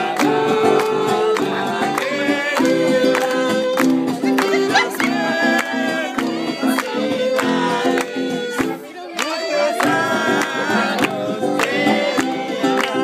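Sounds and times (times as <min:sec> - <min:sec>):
live band music: 0:00.0 - 0:12.4.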